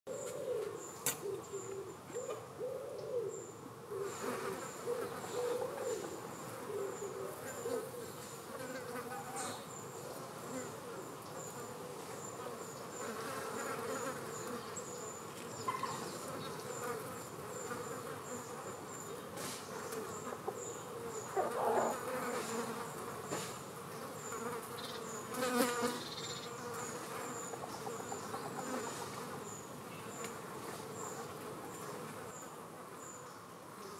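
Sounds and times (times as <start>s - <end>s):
flies buzzing: 3.8s - 33.9s.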